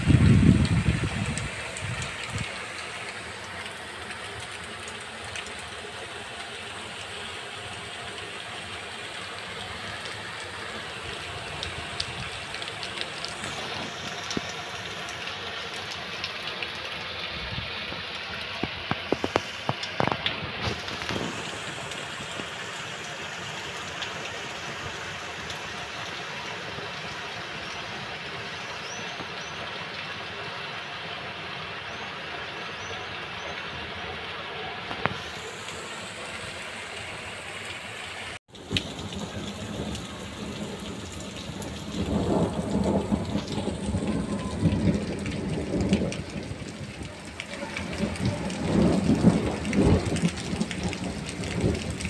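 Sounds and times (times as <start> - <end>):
heavy rain hissing: 0.0 - 52.0
running storm water: 0.0 - 52.0.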